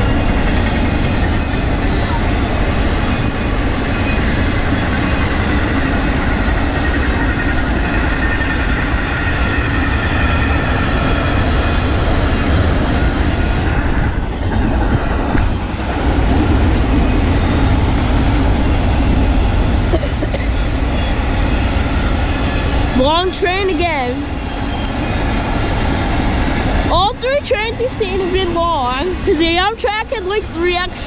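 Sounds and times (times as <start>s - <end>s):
freight train rolling past: 0.0s - 31.0s
wheels rumbling on rails: 0.0s - 31.0s.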